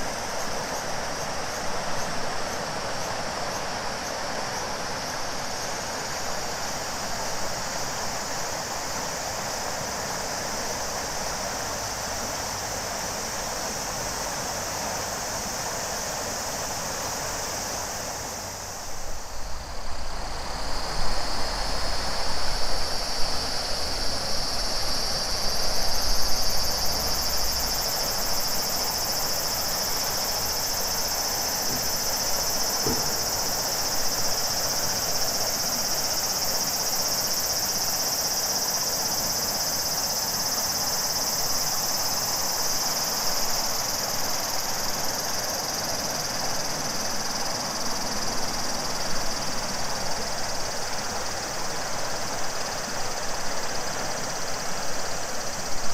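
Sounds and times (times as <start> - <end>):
cicadas singing: 0.0 - 55.9.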